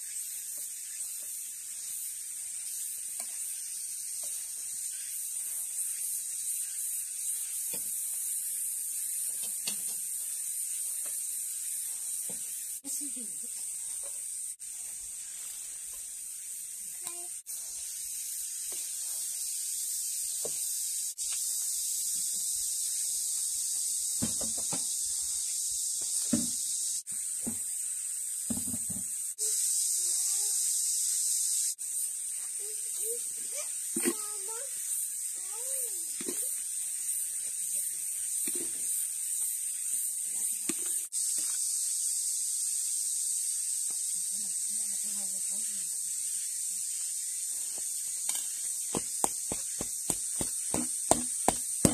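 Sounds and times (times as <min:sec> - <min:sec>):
steady high hiss: 0:00.0 - 0:51.9.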